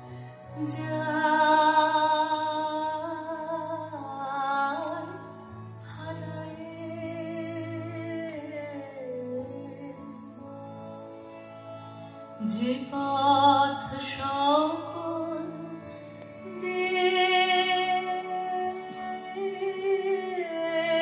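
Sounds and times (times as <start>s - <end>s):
person singing: 0.0s - 11.0s, 12.4s - 21.0s
harmonium and keyboard melody: 0.0s - 21.0s.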